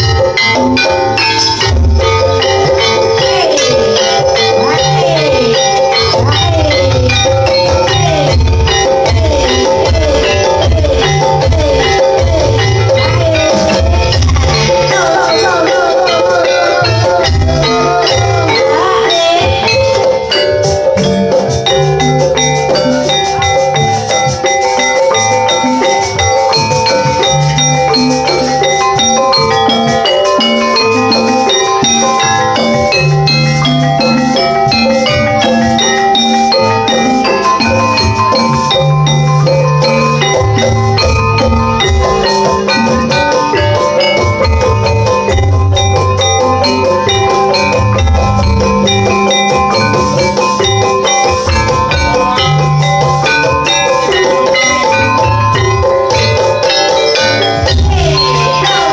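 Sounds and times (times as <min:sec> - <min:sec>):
gamelan metal percussion: 0:00.0 - 0:58.9.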